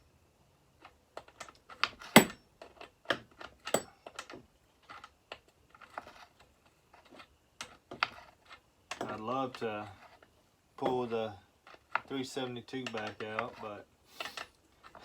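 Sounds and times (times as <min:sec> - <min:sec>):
small parts and tools clattering: 0:00.8 - 0:15.0.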